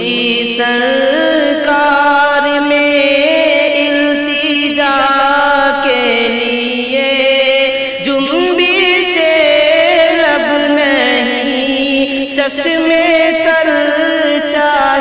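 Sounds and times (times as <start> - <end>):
person singing solo: 0.0 - 15.0.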